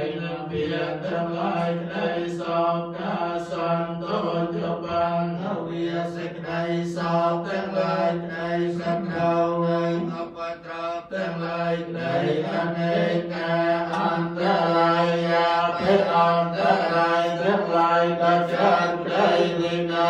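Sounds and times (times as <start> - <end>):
monks chanting together: 0.0 - 20.0.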